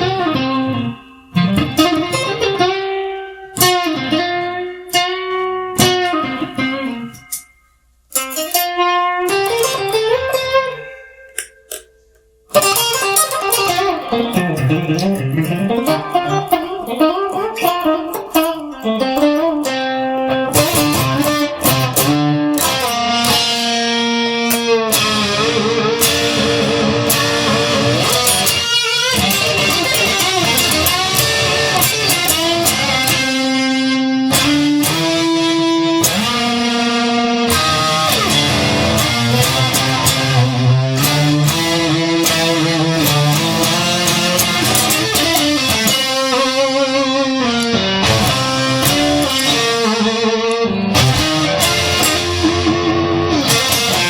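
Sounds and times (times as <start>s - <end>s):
electric guitar rock passage: 0.0s - 54.0s
bass guitar: 9.4s - 54.0s.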